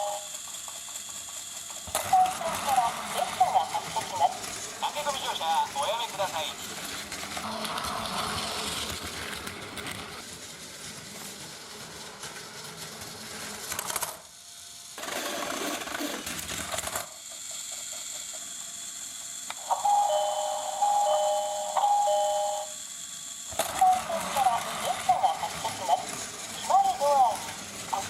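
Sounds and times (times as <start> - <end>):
toy train wheels rattling: 0.0 - 14.2, 15.0 - 28.0
toy train motor whirring: 0.0 - 28.0.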